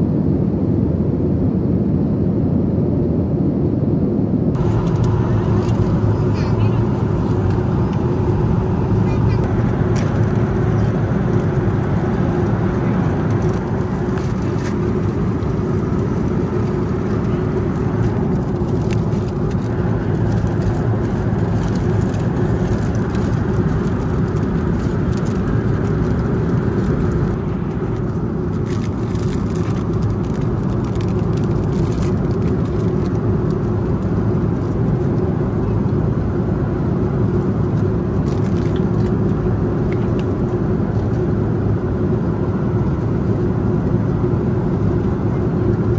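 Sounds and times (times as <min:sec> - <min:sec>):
low drone of jet engines: 0:00.0 - 0:45.9.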